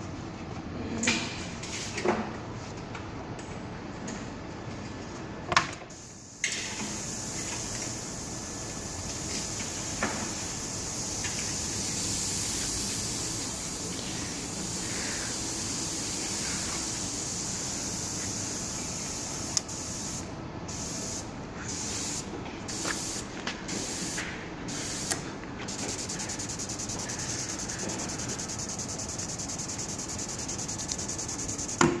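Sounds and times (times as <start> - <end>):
ultrasonic generator hissing: 5.9 - 31.9.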